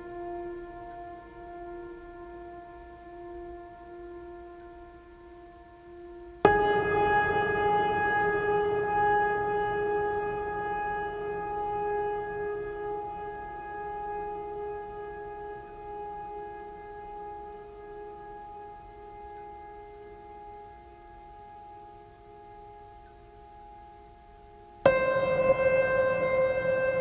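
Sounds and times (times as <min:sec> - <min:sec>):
held chord of music: 0:00.0 - 0:24.1, 0:24.8 - 0:27.0.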